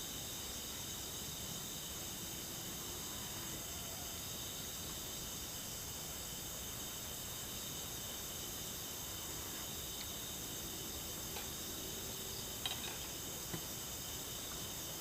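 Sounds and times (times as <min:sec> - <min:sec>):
crickets trilling: 0:00.0 - 0:15.0
soft background hiss: 0:00.0 - 0:15.0.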